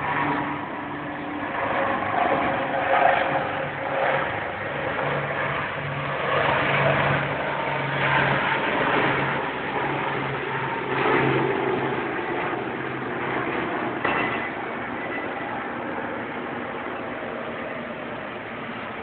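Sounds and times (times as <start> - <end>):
helicopter rotor and turbine noise: 0.0 - 19.0.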